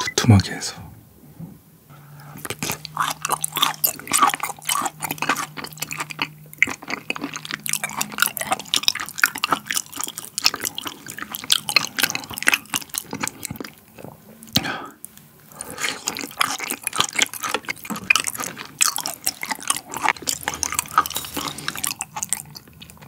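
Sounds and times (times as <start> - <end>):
wet chewing of raw meat: 2.0 - 23.0.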